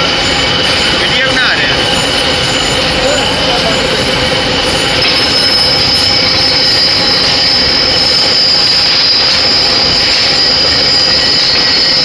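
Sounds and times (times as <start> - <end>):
lathe tool squealing on steel: 0.0 - 12.0.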